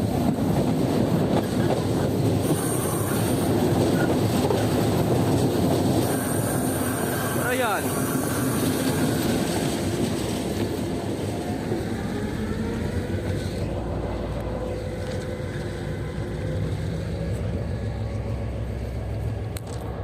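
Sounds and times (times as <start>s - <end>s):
diesel train rumbling: 0.0s - 20.0s.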